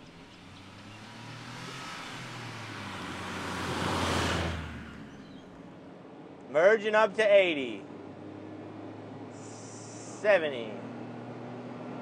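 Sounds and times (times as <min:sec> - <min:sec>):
small truck passing by: 0:00.0 - 0:05.8, 0:07.8 - 0:12.0.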